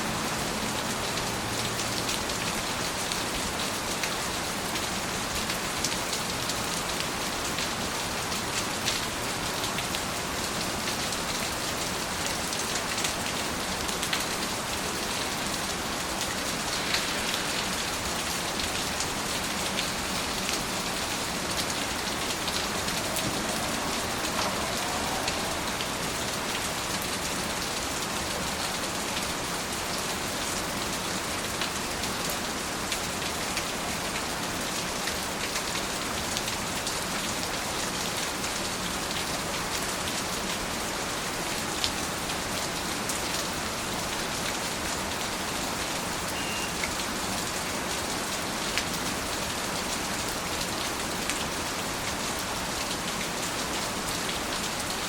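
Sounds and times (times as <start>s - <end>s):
steady rain hiss: 0.0s - 55.0s
raindrops ticking on a surface: 0.1s - 55.0s.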